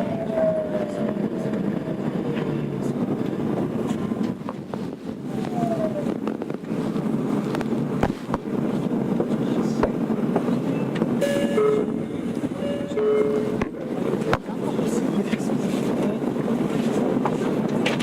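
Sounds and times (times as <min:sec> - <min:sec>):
rail clacks: 0:00.0 - 0:18.0
subway car rumble: 0:00.0 - 0:18.0.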